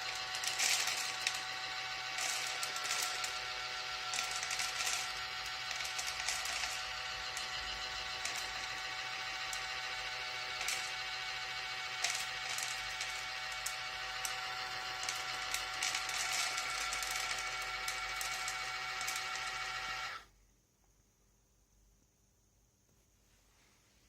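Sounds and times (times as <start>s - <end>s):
small electric motor whining: 0.0s - 20.3s.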